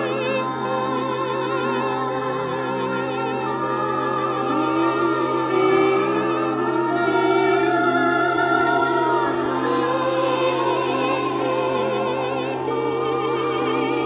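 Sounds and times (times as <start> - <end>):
low drone: 0.0 - 14.0
voices singing operatically: 0.0 - 14.0.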